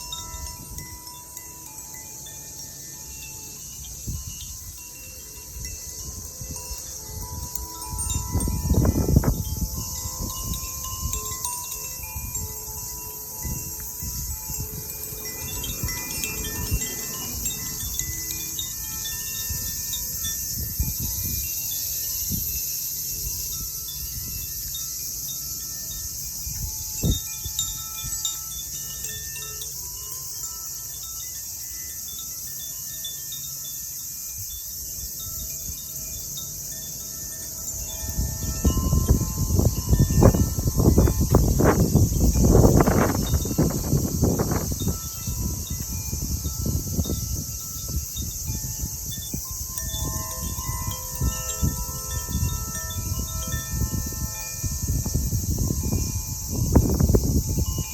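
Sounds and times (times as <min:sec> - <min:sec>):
wind rumble on microphone: 0:00.0 - 0:30.2, 0:34.2 - 0:57.9
insect drone: 0:00.0 - 0:57.9
wind chime ringing: 0:00.0 - 0:57.9.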